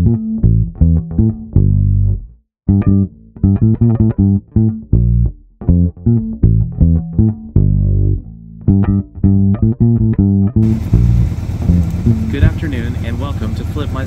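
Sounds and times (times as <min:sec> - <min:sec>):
plucked bass guitar riff: 0:00.0 - 0:14.0.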